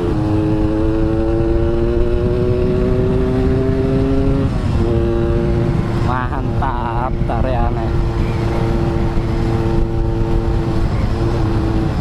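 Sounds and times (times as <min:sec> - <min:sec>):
low rumbling noise: 0:00.0 - 0:12.0
motorcycle engine accelerating: 0:00.0 - 0:12.0.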